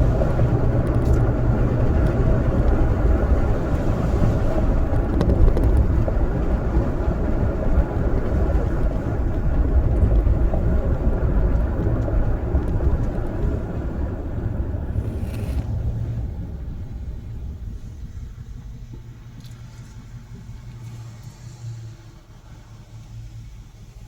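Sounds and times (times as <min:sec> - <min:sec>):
deep rumble: 0:00.0 - 0:24.0.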